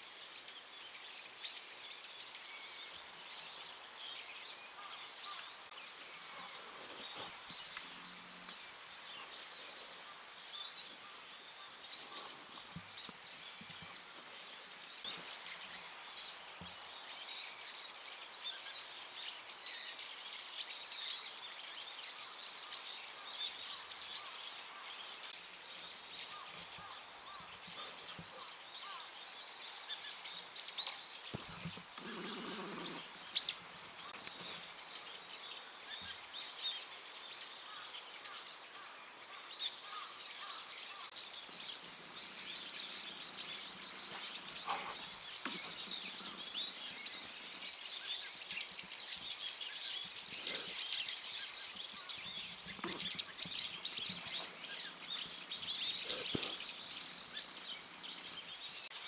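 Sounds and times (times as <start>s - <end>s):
birds chirping: 0.0s - 59.0s
steady outdoor hiss: 0.0s - 59.0s.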